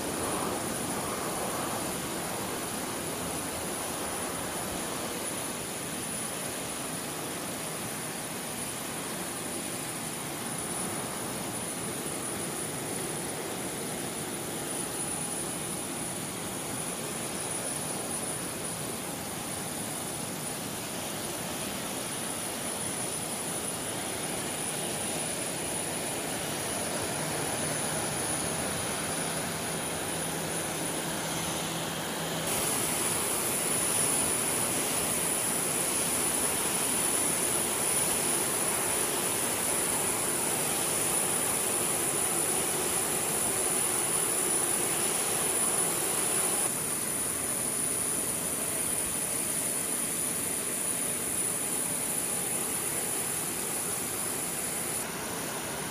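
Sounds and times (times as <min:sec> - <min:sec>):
high jet whine: 0:00.0 - 0:55.9
jet engines running: 0:00.0 - 0:55.9.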